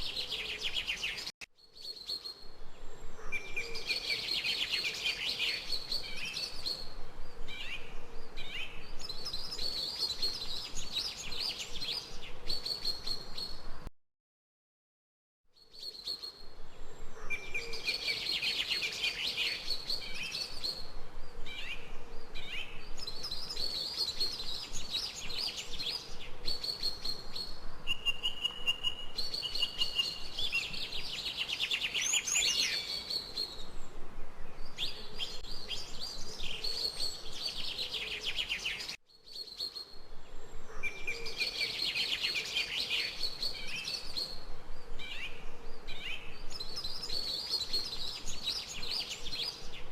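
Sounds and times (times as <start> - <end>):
birds chirping and singing: 0.0 - 13.6, 15.6 - 49.9.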